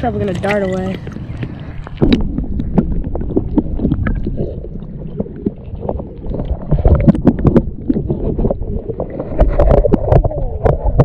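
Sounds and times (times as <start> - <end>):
underwater clicks and gurgles: 0.0 - 11.0
underwater low rumble: 0.0 - 11.0.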